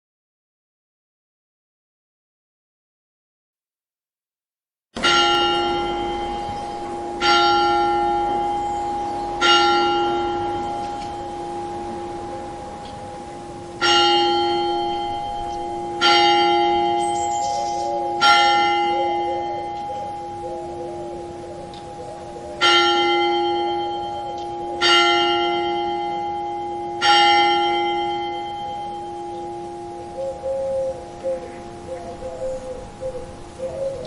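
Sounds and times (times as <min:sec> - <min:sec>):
church bell tolling: 0:05.0 - 0:32.3.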